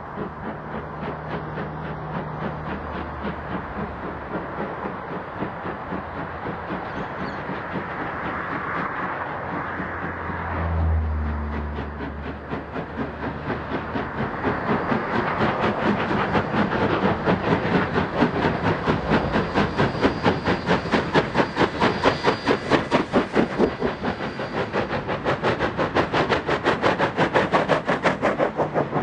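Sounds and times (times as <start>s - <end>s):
steam locomotives chuffing: 0.0s - 29.0s.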